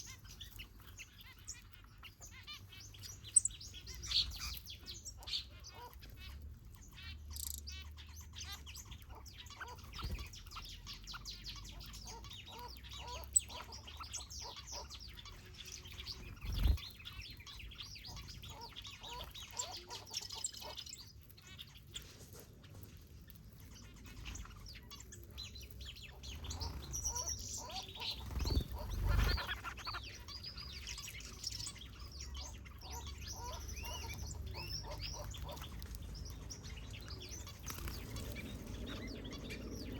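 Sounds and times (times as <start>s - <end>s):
finches chirping and calling: 0.0s - 39.9s.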